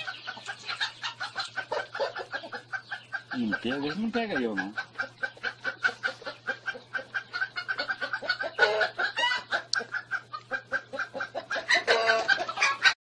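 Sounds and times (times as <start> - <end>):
chicken clucking: 0.0 - 13.0
chicken squawking: 0.0 - 13.0.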